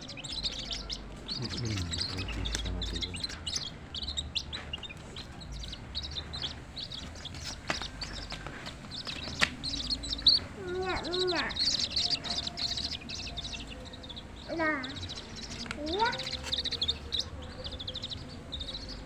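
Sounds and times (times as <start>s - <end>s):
low rising and falling bird call: 0.0s - 19.0s
small birds chirping: 0.0s - 19.0s.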